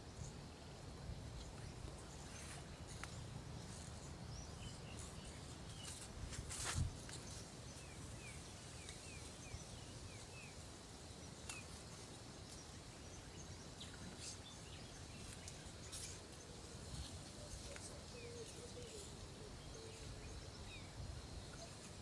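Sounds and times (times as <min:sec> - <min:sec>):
low background hiss: 0:00.0 - 0:22.0.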